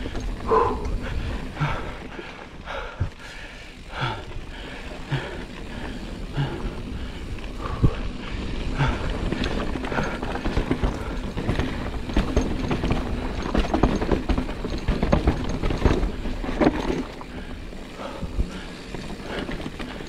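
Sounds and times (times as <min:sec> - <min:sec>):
mountain bike rattling over trail: 0:00.0 - 0:20.0.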